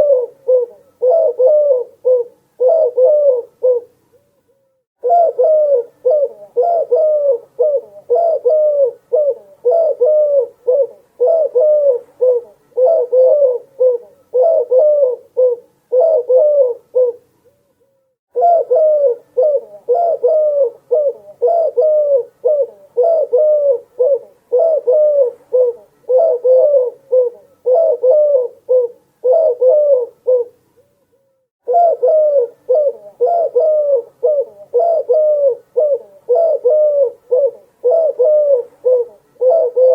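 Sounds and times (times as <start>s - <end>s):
dove cooing: 0.0s - 4.4s, 5.0s - 17.3s, 18.3s - 30.6s, 31.6s - 39.9s.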